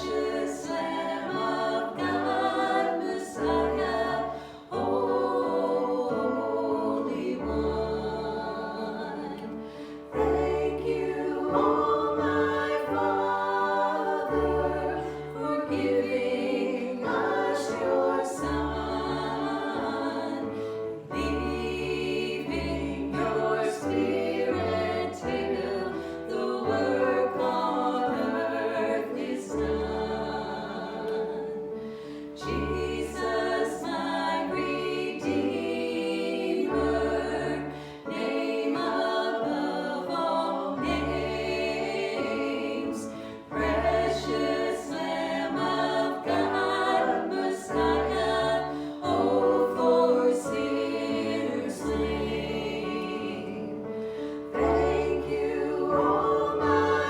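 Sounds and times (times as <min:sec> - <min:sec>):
group singing worship music: 0:00.0 - 0:57.0.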